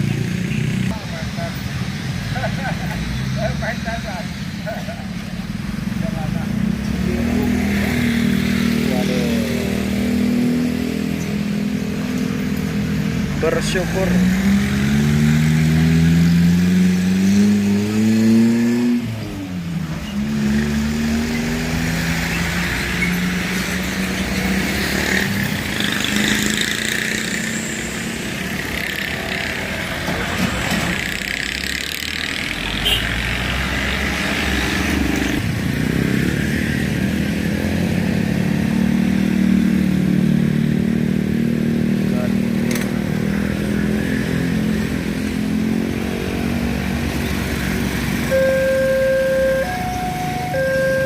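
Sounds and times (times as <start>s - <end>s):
cars passing: 0.0s - 51.0s
motorcycles passing: 0.0s - 51.0s.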